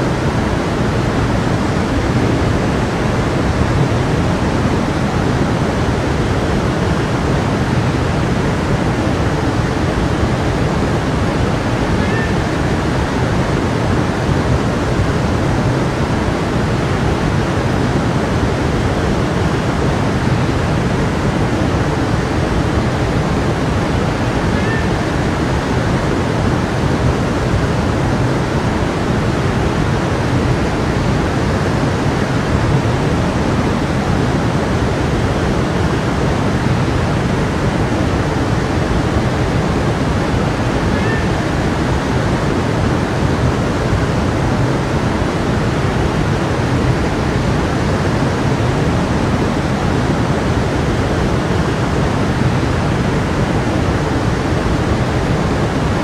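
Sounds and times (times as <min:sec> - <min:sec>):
stream rushing and babbling: 0:00.0 - 0:56.0.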